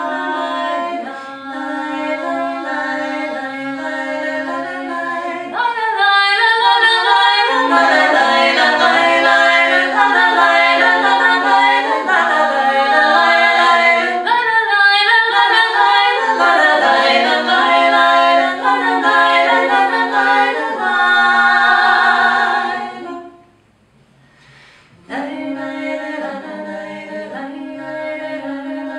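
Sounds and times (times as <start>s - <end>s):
women singing in harmony: 0.0s - 23.6s, 24.9s - 28.9s.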